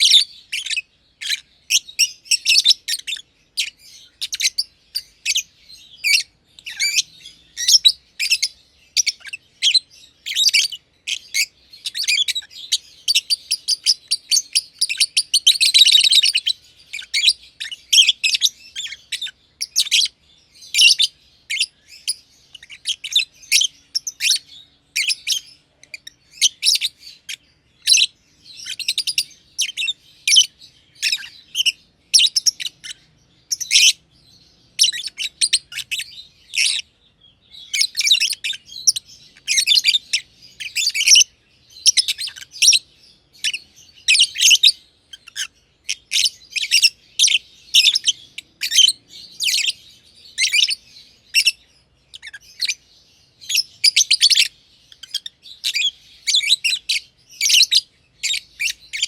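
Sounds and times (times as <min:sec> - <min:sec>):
lovebirds chirping shrilly: 0:00.0 - 0:59.0.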